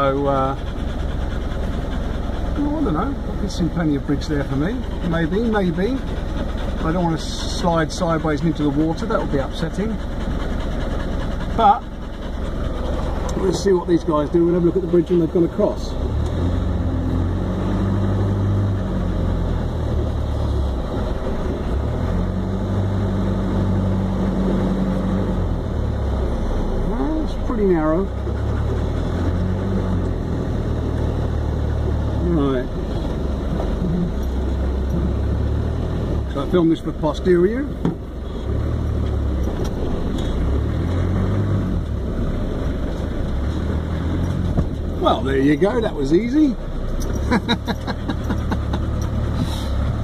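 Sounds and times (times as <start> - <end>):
vehicle engine humming at low speed: 0.0 - 50.0.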